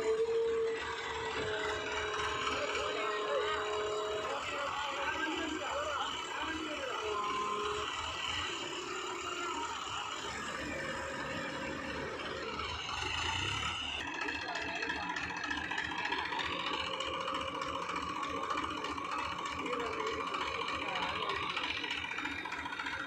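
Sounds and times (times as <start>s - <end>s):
diesel engine low pulsing: 0.0s - 23.0s
hydraulic high whine: 0.0s - 23.0s.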